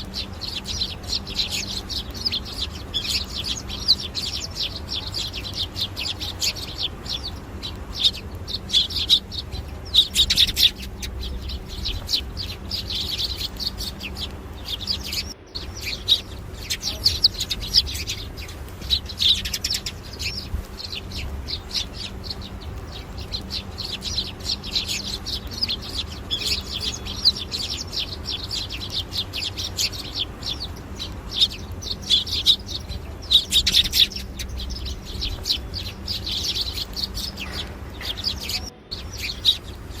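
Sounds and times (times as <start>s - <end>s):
birds chirping: 0.0s - 40.0s
low background rumble: 0.0s - 40.0s.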